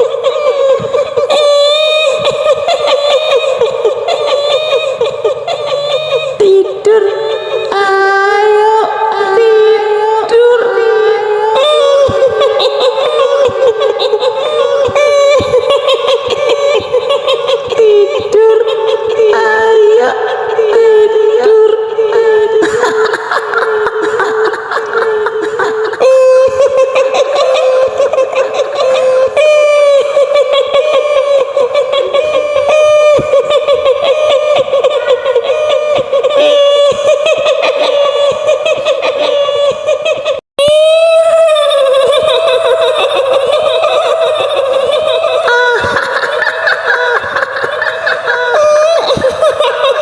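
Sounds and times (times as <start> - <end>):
woman giggling high-pitched: 0.0 - 50.0
woman wailing: 0.0 - 50.0
woman's high-pitched cackling laughter: 0.0 - 50.0.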